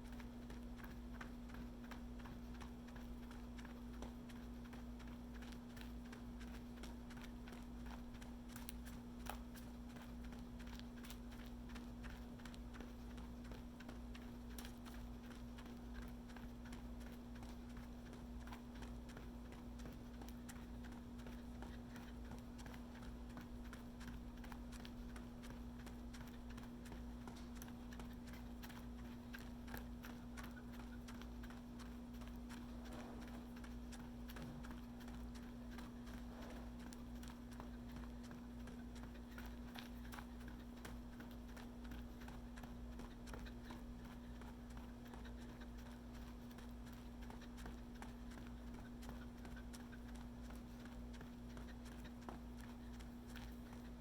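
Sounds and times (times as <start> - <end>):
running footsteps: 0.0 - 54.0
steady low hum: 0.0 - 54.0.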